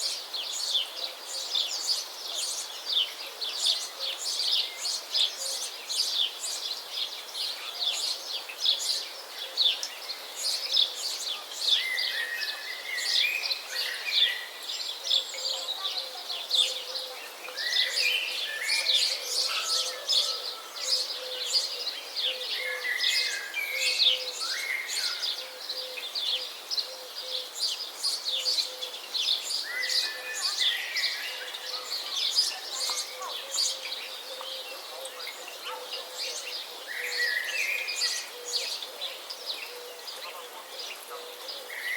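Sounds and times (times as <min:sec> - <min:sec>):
small birds chirping and twittering: 0:00.0 - 0:41.9.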